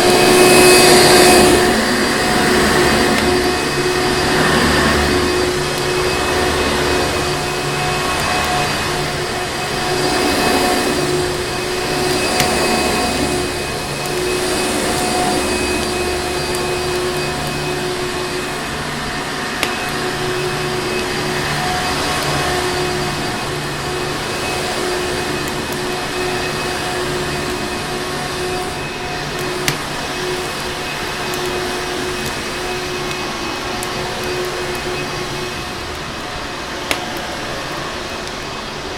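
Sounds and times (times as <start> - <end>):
vacuum cleaner motor: 0.0 - 38.9.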